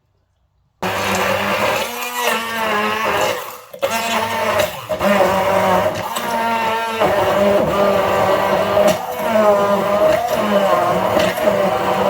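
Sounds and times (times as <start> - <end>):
electric blender running: 0.8 - 12.0.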